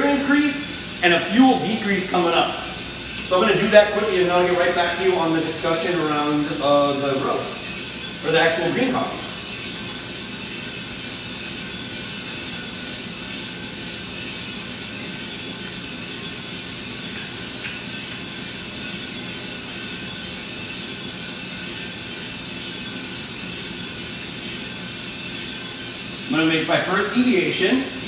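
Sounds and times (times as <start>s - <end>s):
coffee roaster running: 0.0s - 28.0s.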